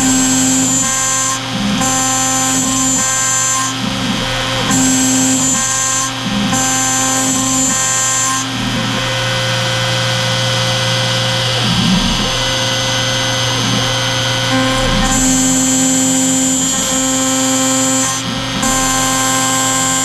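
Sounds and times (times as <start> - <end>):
router spindle whine cutting plastic: 0.0 - 20.0.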